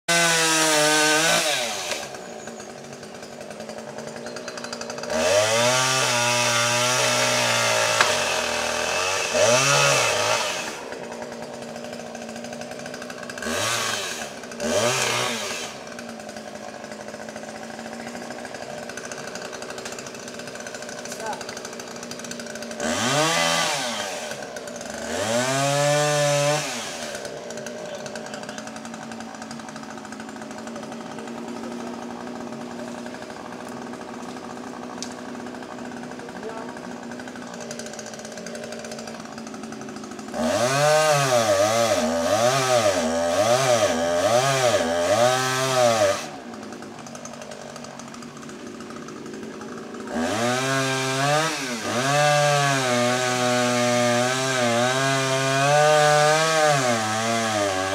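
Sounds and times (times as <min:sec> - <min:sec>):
chainsaw engine revving: 0:00.1 - 0:57.9.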